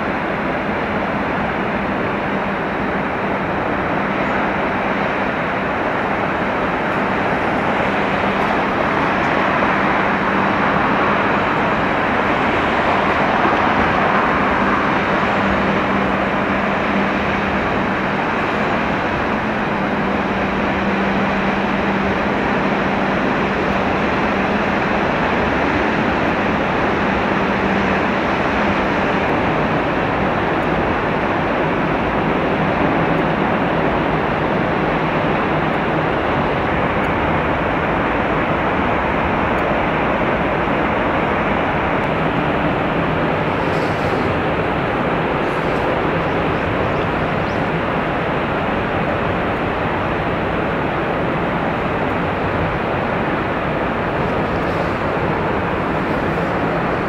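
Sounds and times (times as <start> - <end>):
large ship passing rushing noise: 0.0 - 57.0
low machinery hum: 0.0 - 57.0.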